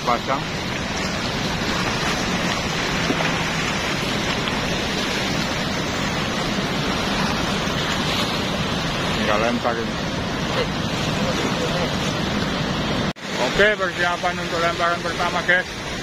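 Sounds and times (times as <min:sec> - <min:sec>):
river water rushing through weir: 0:00.0 - 0:16.0.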